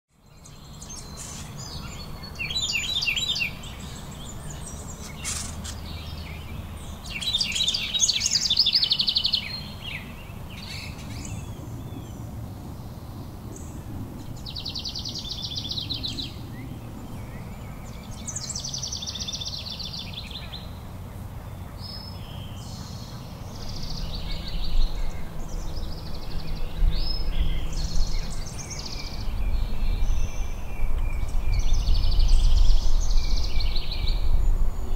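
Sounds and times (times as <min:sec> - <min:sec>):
songbirds trilling: 0:00.2 - 0:34.9.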